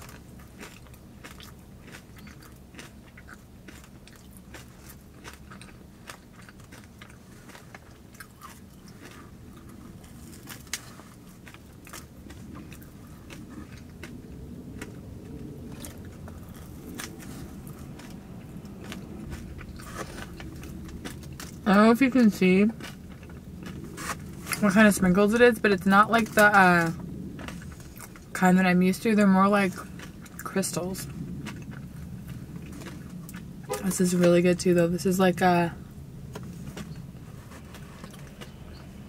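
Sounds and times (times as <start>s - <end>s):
person chewing crunchy donut: 0.0s - 24.8s, 26.1s - 28.4s, 29.7s - 33.9s, 35.8s - 39.0s.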